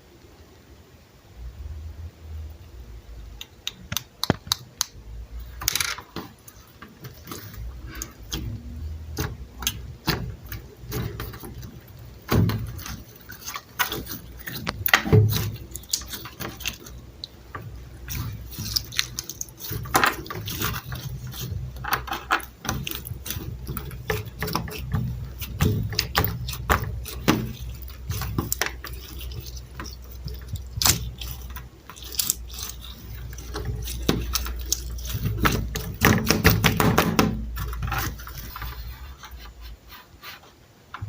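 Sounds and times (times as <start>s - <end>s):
slime squelches: 1.3s - 40.9s
slime squishing with sticky clicks: 3.3s - 38.9s.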